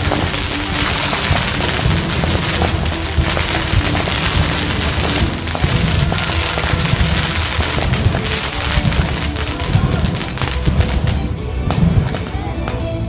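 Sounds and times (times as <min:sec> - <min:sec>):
fireworks crackling: 0:00.0 - 0:12.8
flame jets and fireworks hissing: 0:00.0 - 0:12.8
loud music with heavy bass: 0:00.0 - 0:13.0.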